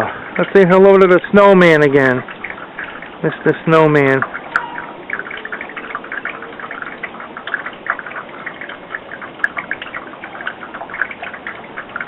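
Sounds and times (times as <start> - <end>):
meltwater dripping and splashing: 0.0 - 12.0.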